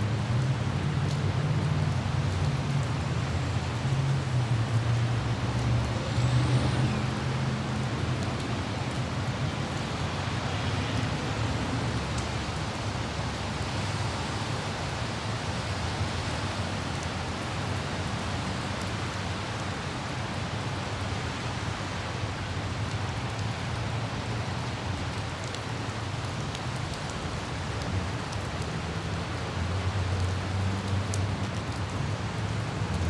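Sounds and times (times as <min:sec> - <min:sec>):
light rain hiss: 0:00.0 - 0:33.0
low traffic rumble: 0:00.0 - 0:33.0
raindrop ticks: 0:00.0 - 0:33.0.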